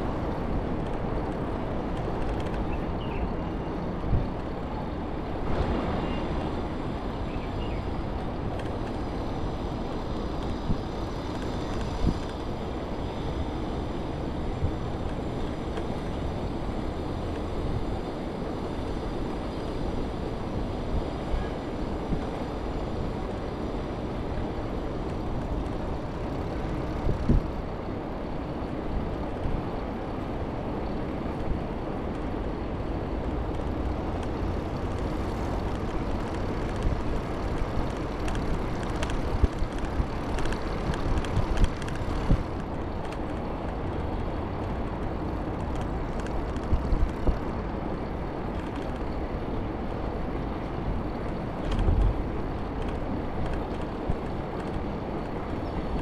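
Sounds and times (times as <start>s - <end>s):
bicycle rumbling over paving: 3.8s - 56.0s
wind on microphone: 3.9s - 56.0s.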